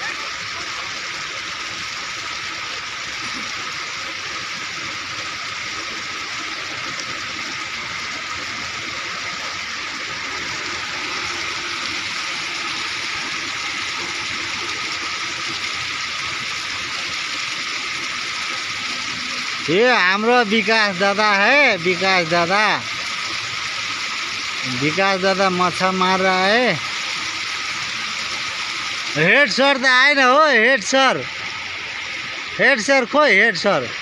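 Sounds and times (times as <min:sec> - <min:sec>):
running water rushing: 0:00.0 - 0:34.0.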